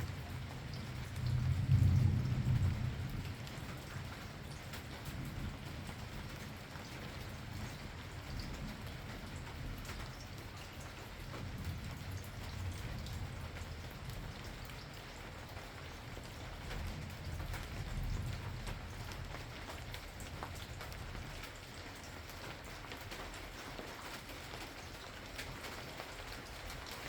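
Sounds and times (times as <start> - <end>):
rain drops on hard surface: 0.0 - 27.0.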